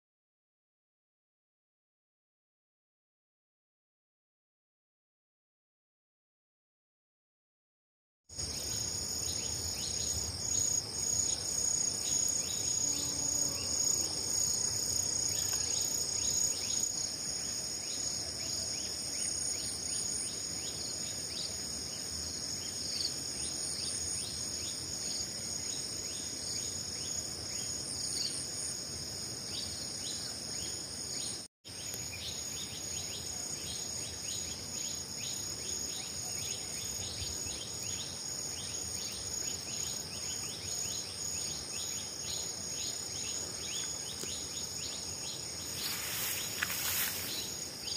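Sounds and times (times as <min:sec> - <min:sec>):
insects chorus: 0:08.3 - 0:47.9.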